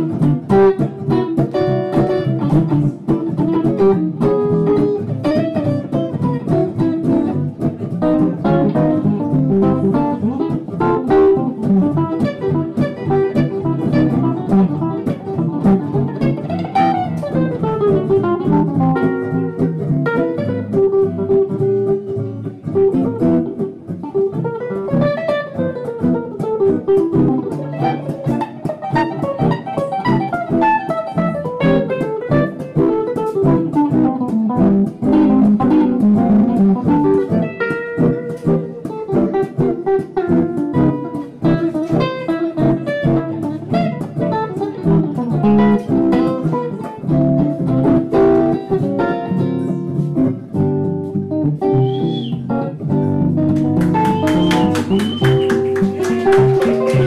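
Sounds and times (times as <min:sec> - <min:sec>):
acoustic guitars playing blues: 0:00.0 - 0:57.0.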